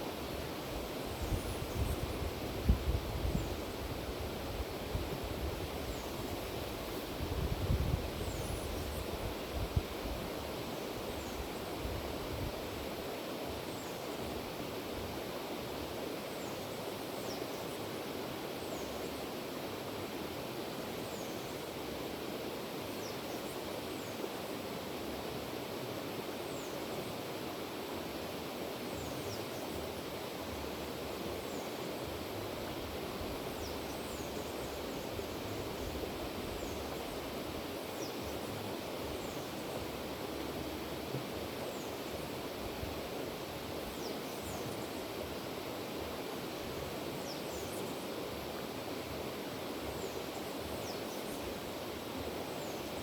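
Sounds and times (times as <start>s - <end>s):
river water rushing over stones: 0.0s - 1.2s, 8.0s - 53.0s.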